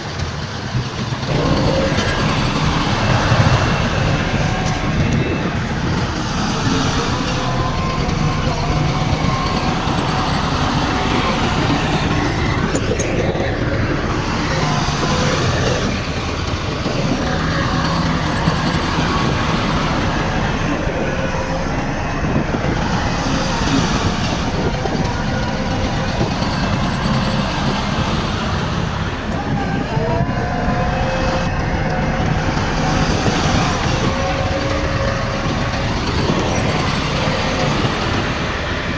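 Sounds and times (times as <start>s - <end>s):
heavy diesel machinery running: 0.0s - 38.9s
thin whining tones: 0.0s - 38.9s.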